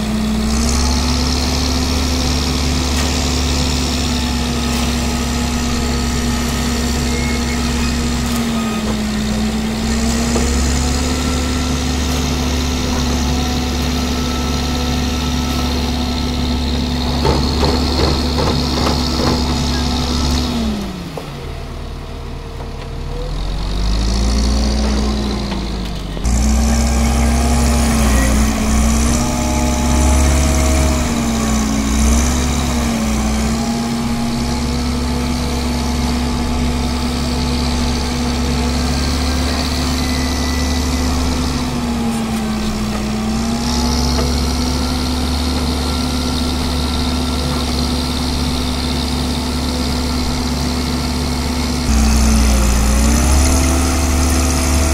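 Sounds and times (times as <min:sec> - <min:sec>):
diesel engine rumbling: 0:00.0 - 0:54.9.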